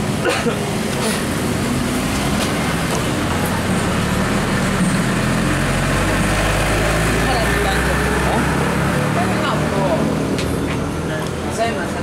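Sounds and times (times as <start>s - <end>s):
engine running close by: 0.0s - 12.0s
road noise: 0.0s - 12.0s.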